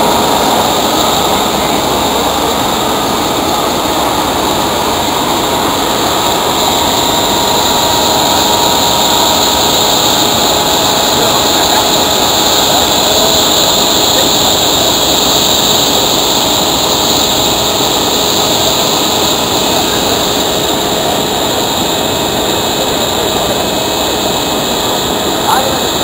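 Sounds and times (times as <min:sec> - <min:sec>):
conveyor machinery roaring: 0:00.0 - 0:26.0
faint steady whine: 0:00.0 - 0:26.0.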